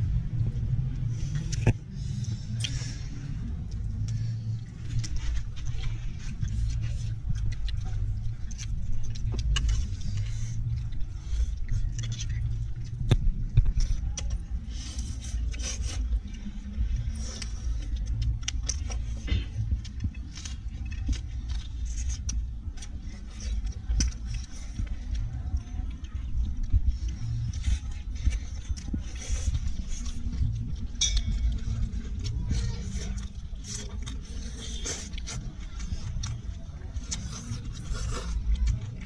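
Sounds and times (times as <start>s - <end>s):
low rumble: 0.0s - 39.0s
mouth smacks and chewing: 1.0s - 39.0s.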